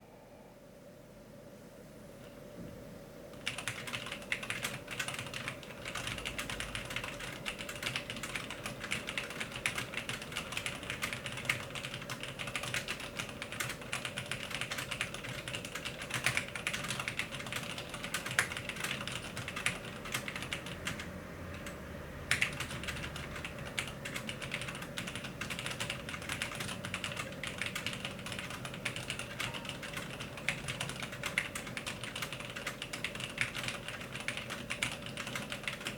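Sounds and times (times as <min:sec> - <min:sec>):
fast typing on mechanical keyboard: 0:03.4 - 0:35.9.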